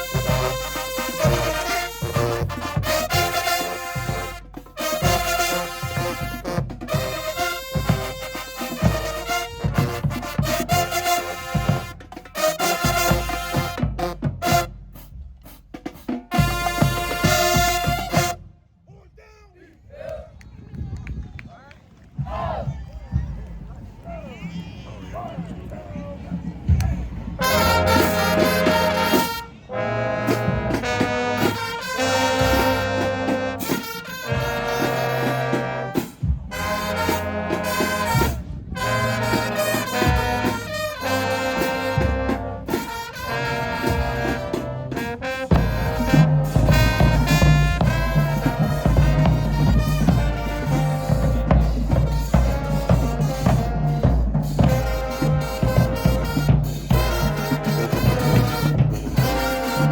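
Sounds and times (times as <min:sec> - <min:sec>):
marching band brass chords: 0:00.0 - 0:20.2, 0:22.2 - 0:59.9.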